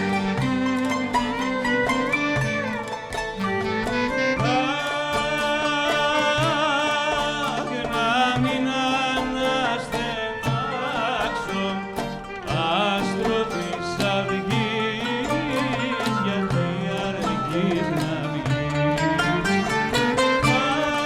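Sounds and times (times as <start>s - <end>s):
plucked strings: 0.0s - 21.0s.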